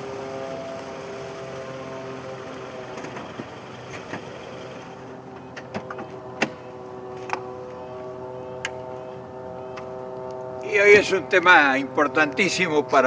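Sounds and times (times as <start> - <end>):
car engine humming: 0.0 - 13.0.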